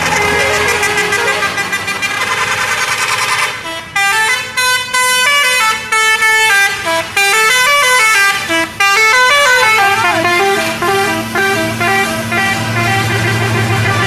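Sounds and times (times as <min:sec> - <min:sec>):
musical bus horn: 0:00.0 - 0:14.0.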